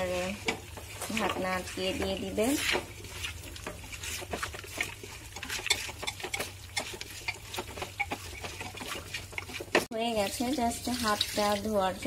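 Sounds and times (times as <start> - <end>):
meat mixed by hand clicks and rustles: 0.0 - 12.0.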